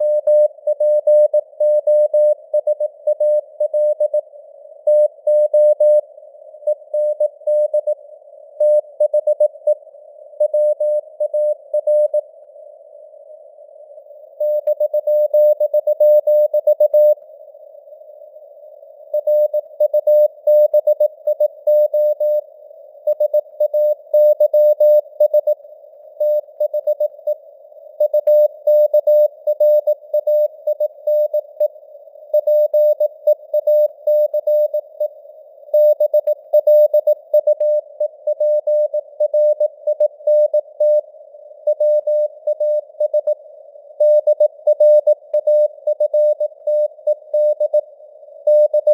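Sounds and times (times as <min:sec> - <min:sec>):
receiver hiss: 0:00.0 - 0:48.9.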